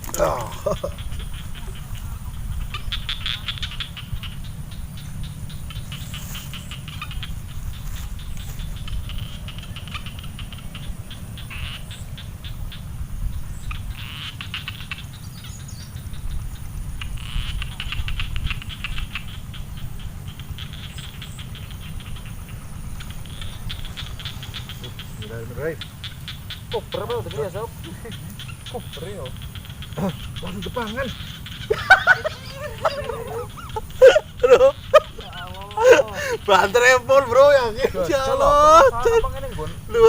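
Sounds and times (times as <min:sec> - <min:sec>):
frogs calling in clicking trills: 0:00.0 - 0:40.0.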